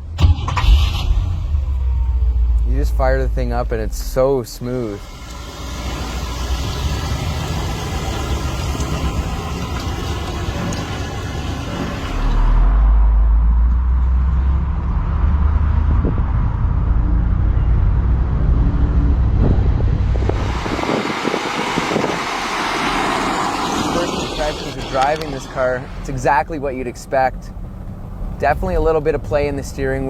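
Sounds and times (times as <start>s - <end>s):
car engine running smoothly: 0.0s - 30.0s.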